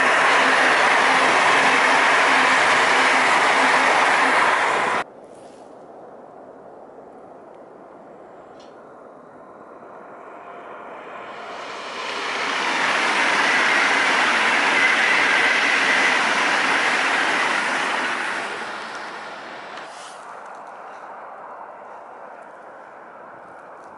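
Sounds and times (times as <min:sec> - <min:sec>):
train passing rushing noise: 0:00.0 - 0:05.1, 0:09.2 - 0:23.9.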